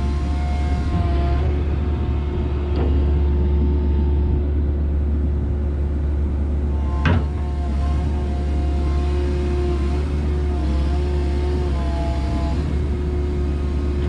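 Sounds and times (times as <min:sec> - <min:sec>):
constant hum: 0:00.0 - 0:14.0
excavator diesel engine running: 0:00.0 - 0:14.0.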